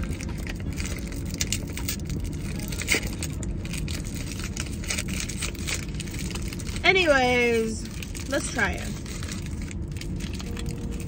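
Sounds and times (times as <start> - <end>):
car engine humming: 0.0 - 11.0
paper wrapper crinkling: 0.0 - 11.0.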